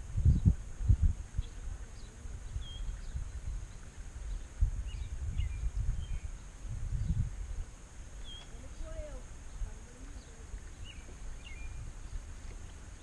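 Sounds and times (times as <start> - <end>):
faint steady high hiss: 0.0 - 13.0.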